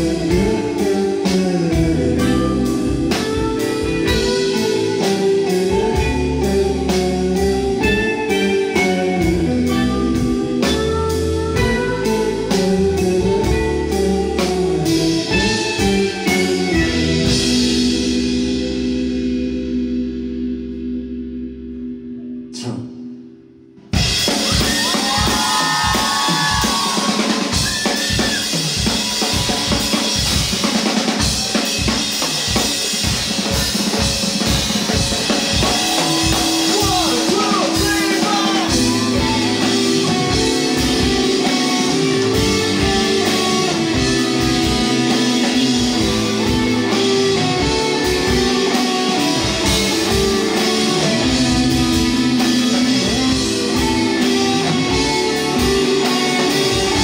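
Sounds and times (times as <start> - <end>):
drum kit beat: 0.0 - 19.4, 23.8 - 57.0
electric bass: 0.0 - 57.0
electric guitar: 0.0 - 57.0.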